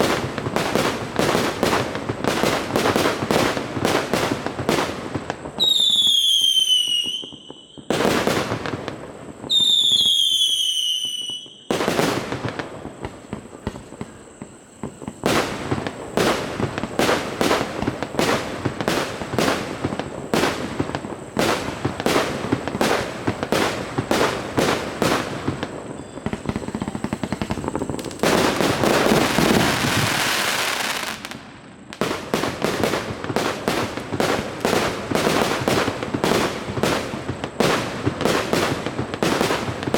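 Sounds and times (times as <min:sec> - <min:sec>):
falling firework whistles: 0:00.0 - 0:39.9
firework crackling: 0:00.0 - 0:39.9.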